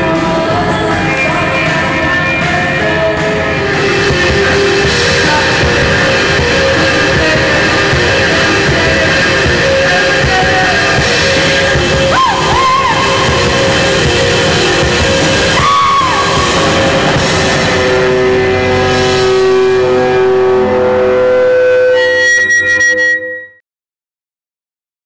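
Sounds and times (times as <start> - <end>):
drums: 0.0 - 21.1
electric guitar: 0.0 - 23.1
bass guitar: 0.0 - 23.4
long held guitar notes: 0.0 - 23.5.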